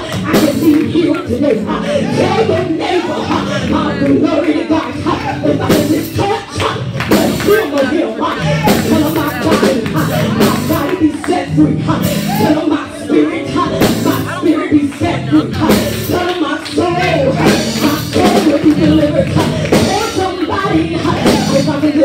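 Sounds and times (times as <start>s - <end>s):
drums steady beat: 0.0s - 22.0s
upbeat praise music: 0.0s - 22.0s.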